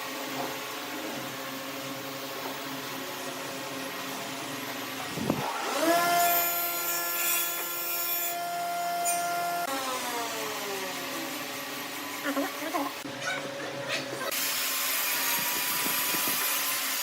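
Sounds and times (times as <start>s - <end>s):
lathe motor humming and whining: 0.0s - 6.9s, 7.5s - 17.0s.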